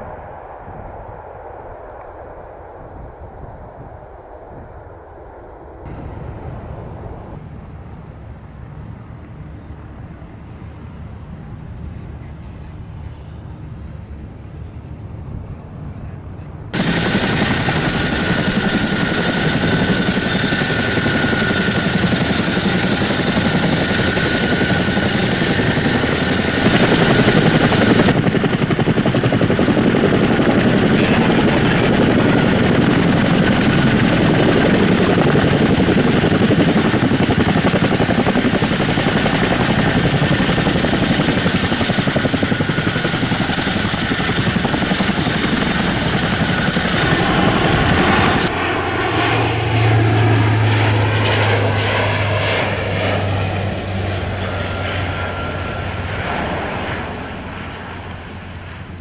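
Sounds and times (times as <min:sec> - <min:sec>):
helicopter rotors and engines: 0:00.0 - 0:59.0
turboprop plane droning: 0:00.0 - 0:59.0.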